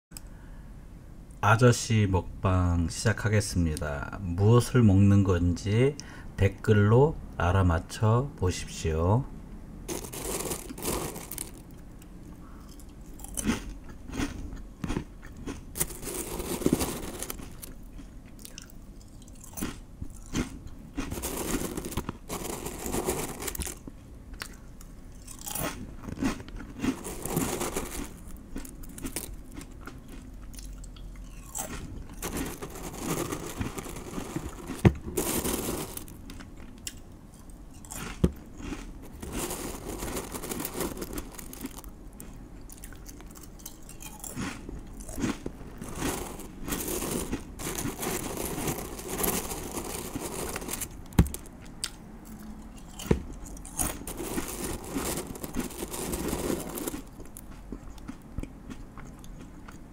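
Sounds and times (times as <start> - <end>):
man chewing close to microphone: 9.9 - 59.9.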